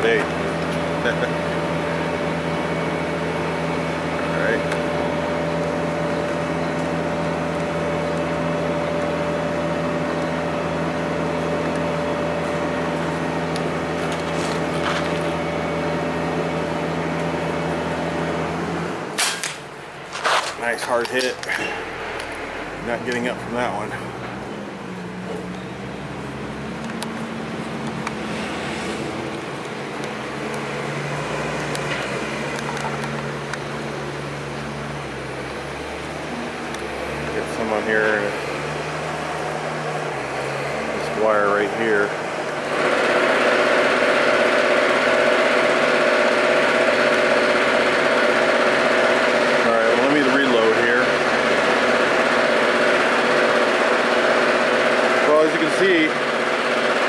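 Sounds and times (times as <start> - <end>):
mechanical motor hum: 0.0 - 57.0.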